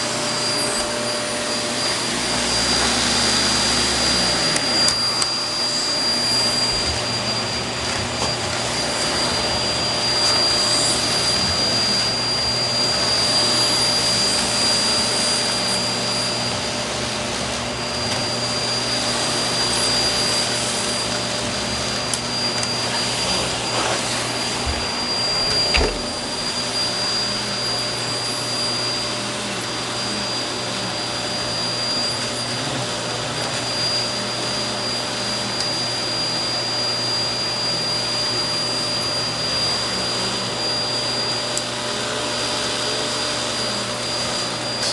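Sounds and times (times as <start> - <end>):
vacuum cleaner whining: 0.0 - 44.9.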